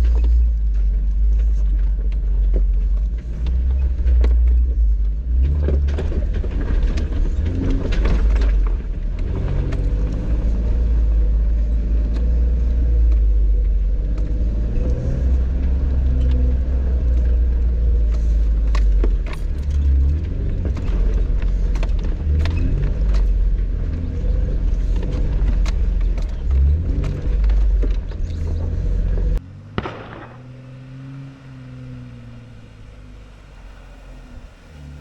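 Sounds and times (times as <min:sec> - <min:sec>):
knocks and rattles: 0:00.0 - 0:30.6
jeep engine rumble: 0:00.0 - 0:35.0.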